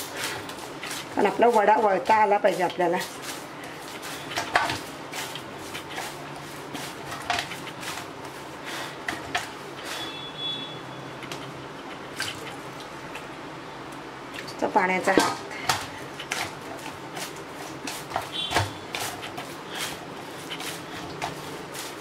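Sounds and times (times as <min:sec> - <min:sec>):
dough kneaded in steel bowl: 0:00.0 - 0:22.0.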